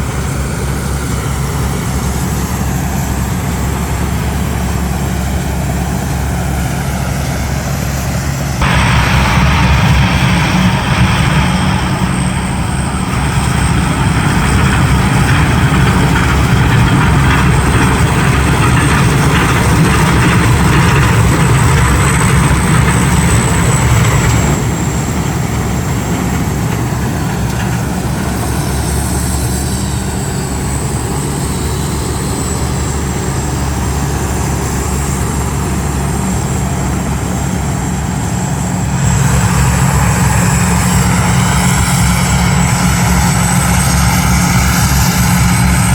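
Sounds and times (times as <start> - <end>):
heavy engine drone: 0.0 - 45.9
high steady whine: 0.0 - 45.9.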